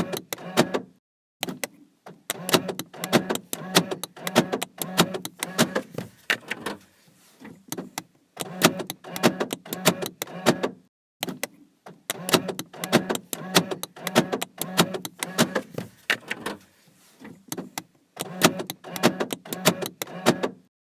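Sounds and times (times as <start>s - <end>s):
sharp clicks in bursts: 1.4s - 6.8s, 7.7s - 16.6s, 17.5s - 20.6s.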